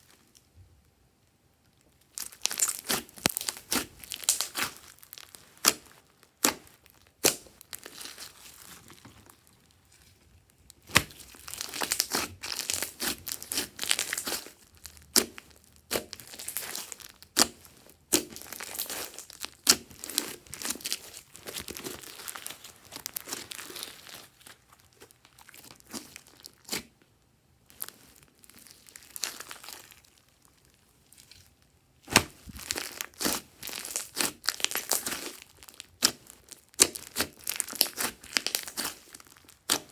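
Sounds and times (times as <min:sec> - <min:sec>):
slime clicking and crackling: 0:02.0 - 0:09.5, 0:10.6 - 0:26.9, 0:27.7 - 0:30.3, 0:32.1 - 0:39.9.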